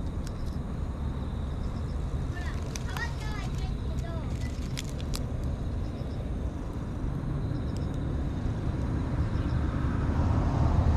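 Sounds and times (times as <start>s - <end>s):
low outdoor rumble: 0.0s - 10.9s.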